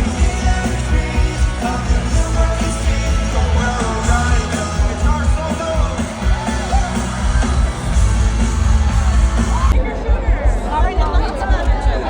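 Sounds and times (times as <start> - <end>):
heavy bass: 0.0 - 12.0
rock music with singing: 0.0 - 12.0.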